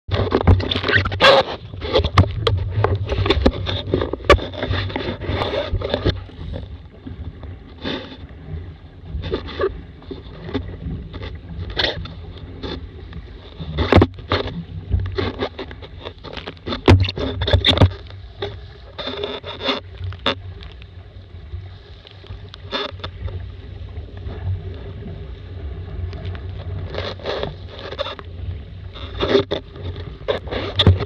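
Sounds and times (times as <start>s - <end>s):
water slapping against hull: 0.1s - 31.0s.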